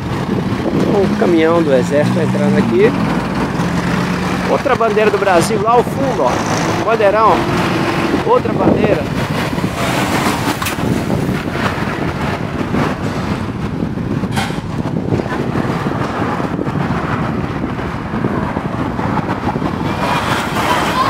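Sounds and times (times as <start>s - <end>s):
truck diesel engine rumble: 0.0s - 21.0s
wind buffeting microphone: 0.0s - 21.0s.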